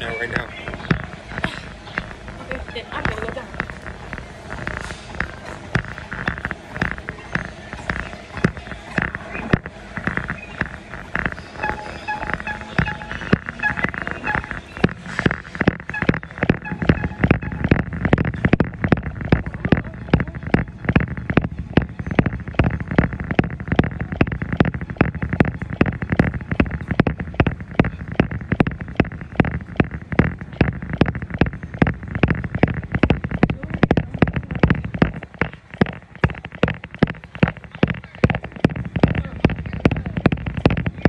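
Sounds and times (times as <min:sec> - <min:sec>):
footfalls jogging on treadmill: 0:00.0 - 0:41.0.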